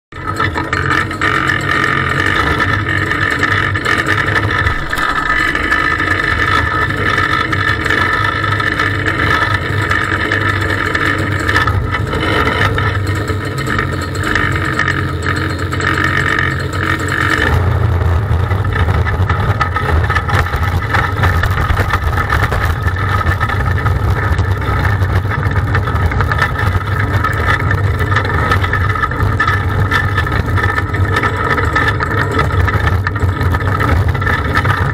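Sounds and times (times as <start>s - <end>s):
race car engine drone: 0.2s - 34.9s.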